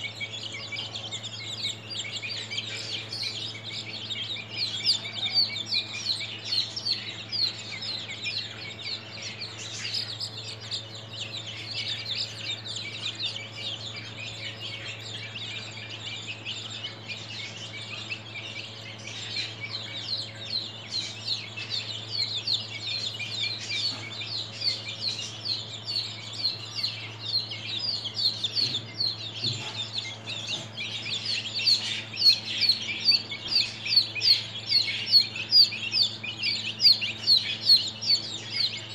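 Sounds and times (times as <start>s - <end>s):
chicks peeping: 0.0s - 38.9s
steady low hum: 0.0s - 38.9s.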